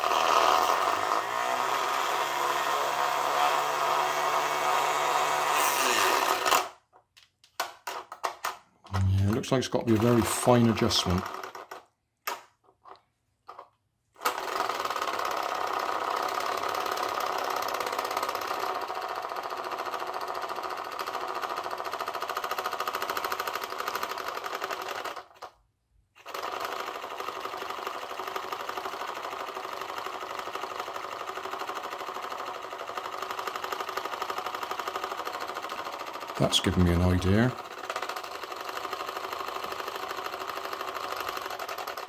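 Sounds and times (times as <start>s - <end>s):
small motor buzzing: 0.0s - 6.8s, 14.2s - 25.5s, 26.2s - 42.0s.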